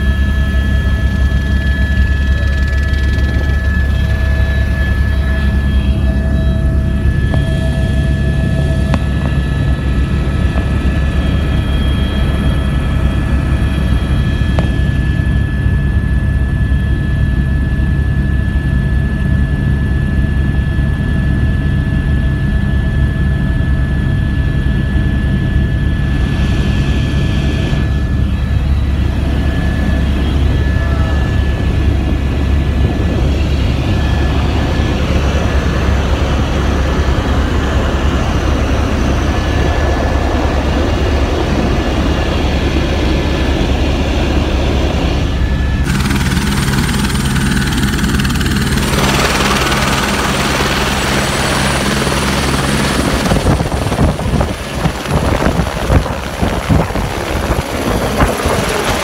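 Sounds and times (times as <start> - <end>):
high whine: 0.0 - 19.1, 24.5 - 59.0
helicopter rotor and engine noise: 0.0 - 59.0.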